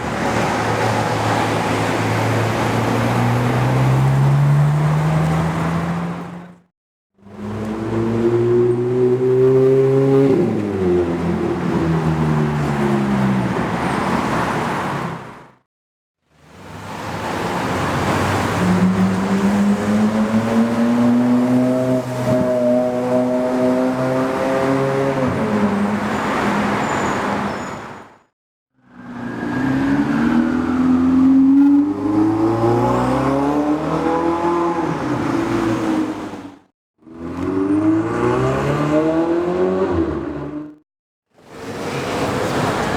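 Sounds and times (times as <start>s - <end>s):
road noise rushing: 0.0s - 6.6s, 7.2s - 15.6s, 16.4s - 28.2s, 28.8s - 40.8s, 41.4s - 42.9s.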